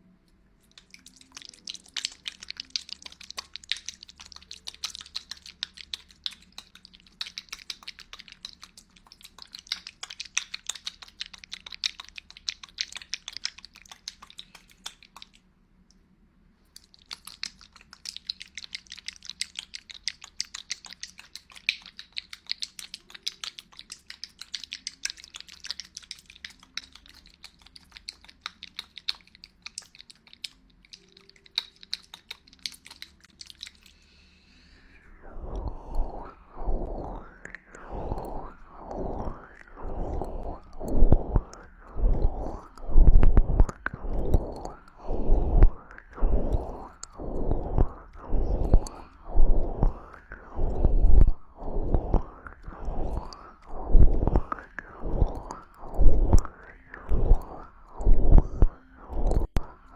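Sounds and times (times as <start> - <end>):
wet clicking and crackling: 0.6 - 16.0, 16.6 - 34.0, 35.2 - 59.9.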